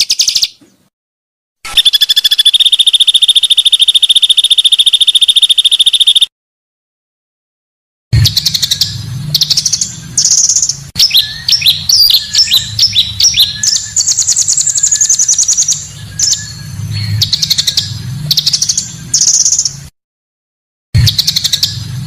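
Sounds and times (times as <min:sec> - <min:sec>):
bird trills and chirps: 0:00.0 - 0:00.6, 0:01.7 - 0:06.3, 0:08.2 - 0:19.8, 0:21.0 - 0:21.9.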